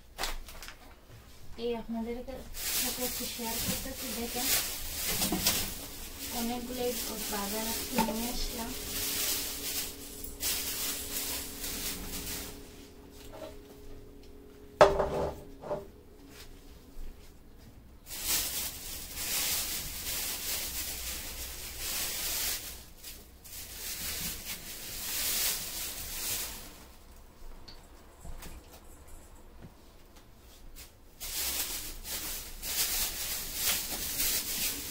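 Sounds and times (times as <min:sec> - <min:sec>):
plastic bags rustling: 0:00.0 - 0:27.2, 0:30.5 - 0:34.9.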